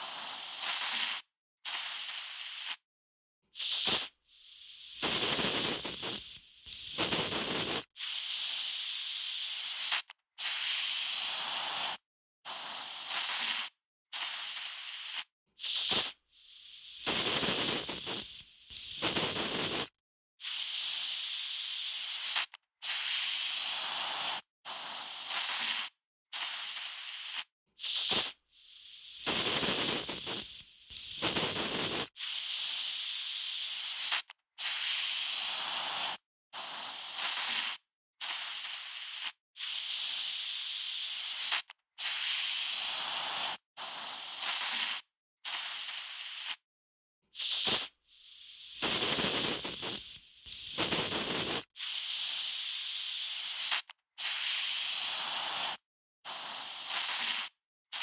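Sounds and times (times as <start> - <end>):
aerosol spray can hissing: 0.0 - 2.8, 3.6 - 46.6, 47.4 - 58.0.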